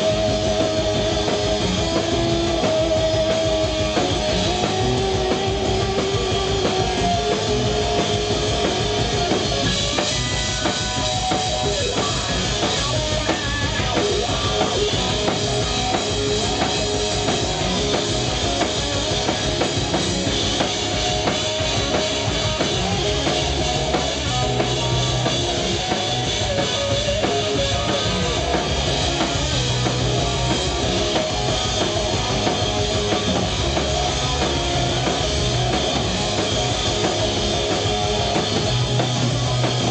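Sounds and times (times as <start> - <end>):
bass guitar: 0.0 - 39.9
drum beat: 0.0 - 39.9
electric guitar: 0.0 - 39.9.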